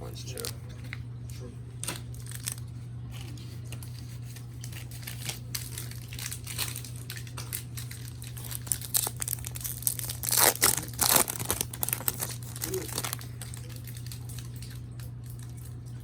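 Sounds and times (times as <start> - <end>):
steady low hum: 0.0 - 16.0
foil wrapper crinkling: 0.3 - 0.9, 1.8 - 16.0.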